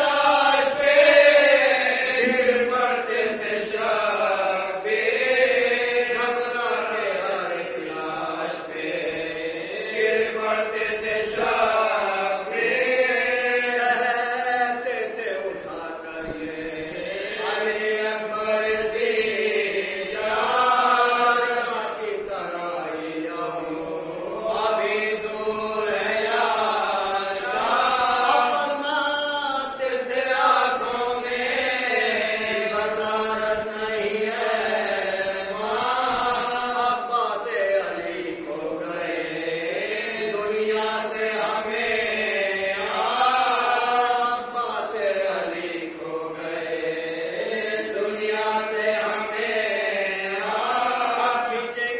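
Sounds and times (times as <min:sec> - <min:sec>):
men chanting together: 0:00.0 - 0:51.9.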